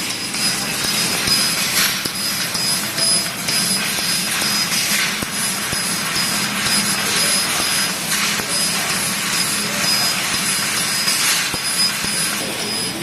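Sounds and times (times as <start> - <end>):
laser cutter hissing: 0.0 - 13.0.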